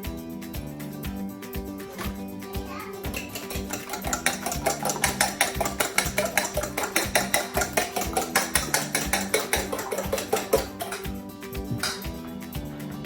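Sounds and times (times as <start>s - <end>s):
music with held notes: 0.0s - 13.0s
quick percussive beat: 0.0s - 13.0s.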